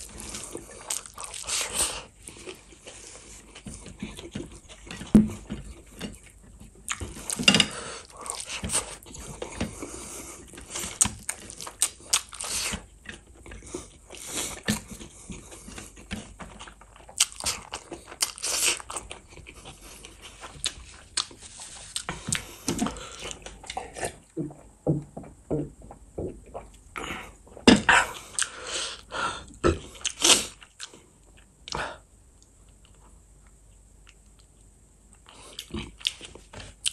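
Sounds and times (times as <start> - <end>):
chewing and lip smacking: 0.0 - 24.8, 29.8 - 31.8, 33.7 - 36.9.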